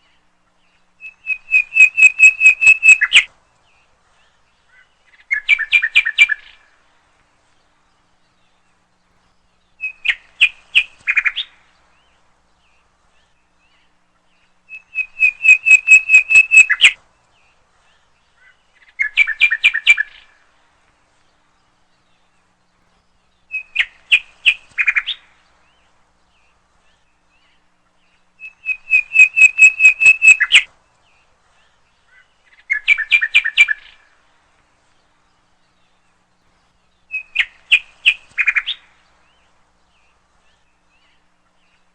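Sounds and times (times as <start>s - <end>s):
bird chirping: 0.0s - 41.9s.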